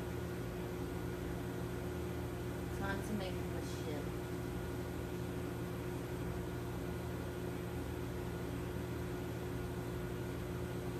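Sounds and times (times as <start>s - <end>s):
kitchen machinery hum: 0.0s - 10.9s.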